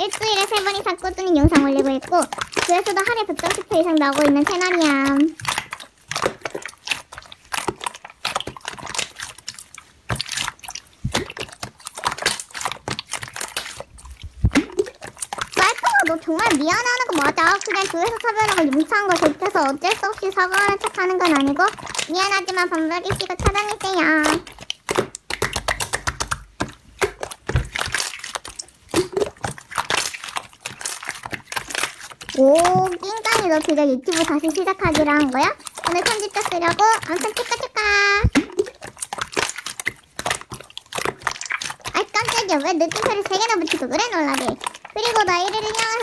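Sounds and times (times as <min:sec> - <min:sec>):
slime squelching and popping: 0:00.0 - 0:46.0.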